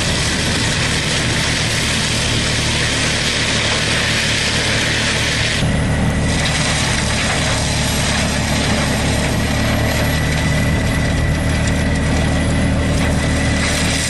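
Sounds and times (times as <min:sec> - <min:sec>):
heavy machine engine running: 0:00.0 - 0:14.0.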